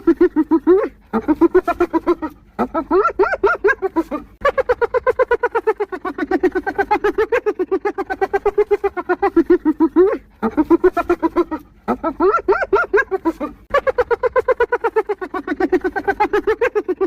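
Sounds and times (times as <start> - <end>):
hyena giggling: 0.0 - 17.0.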